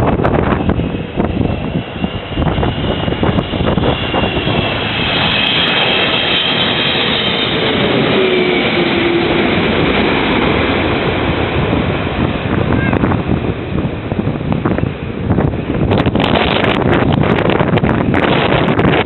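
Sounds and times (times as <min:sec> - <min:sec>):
airliner engine noise: 0:00.0 - 0:19.0
engine whine: 0:00.0 - 0:19.0.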